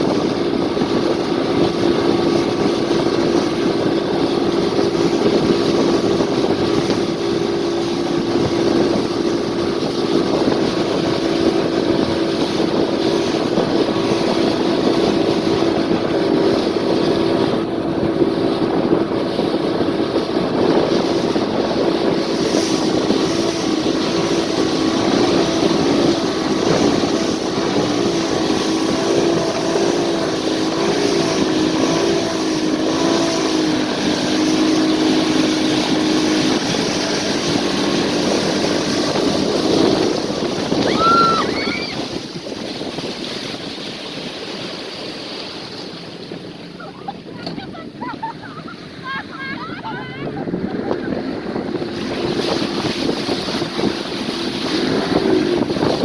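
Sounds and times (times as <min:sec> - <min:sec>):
motorboat engine running: 0:00.0 - 0:56.0
wind noise: 0:00.0 - 0:56.0.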